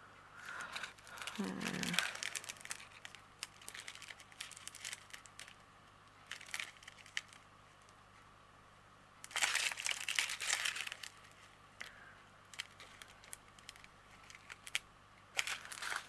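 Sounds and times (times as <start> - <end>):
plastic packets crinkling: 0.5 - 5.6, 6.2 - 7.4, 9.2 - 16.0.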